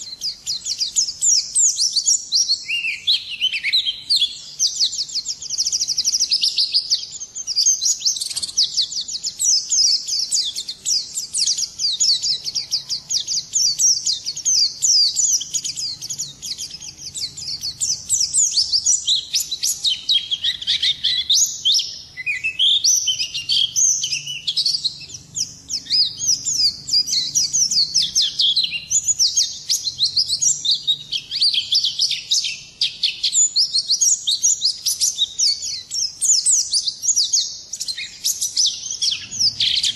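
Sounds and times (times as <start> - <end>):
songbird twittering: 0.0 - 39.9.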